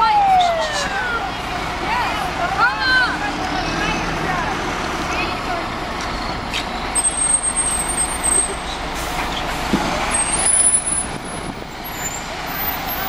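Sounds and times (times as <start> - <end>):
fire engine driving past: 0.0 - 13.0.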